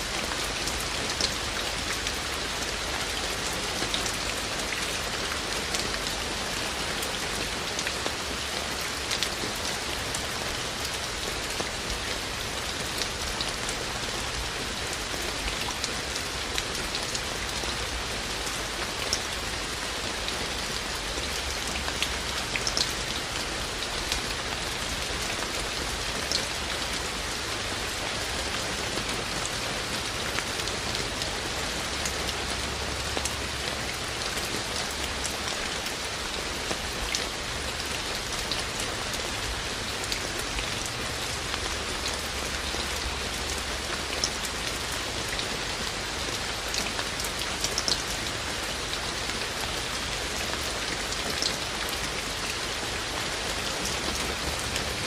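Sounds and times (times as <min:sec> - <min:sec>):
raindrops ticking on surfaces: 0:00.0 - 0:55.0
steady rain falling: 0:00.0 - 0:55.0.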